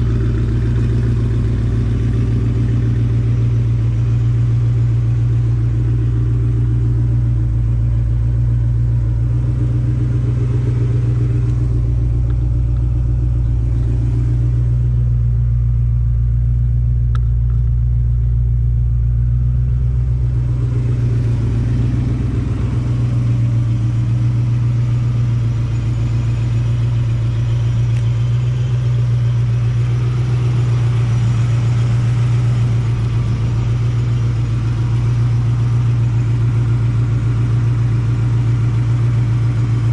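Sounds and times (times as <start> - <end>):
car exhaust humming: 0.0 - 39.9.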